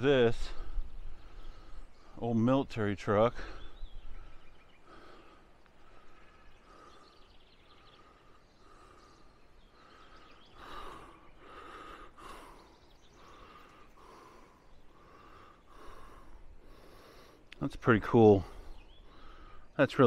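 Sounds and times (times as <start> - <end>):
man breathing heavily: 0.4 - 2.2, 3.4 - 17.5, 18.4 - 19.8.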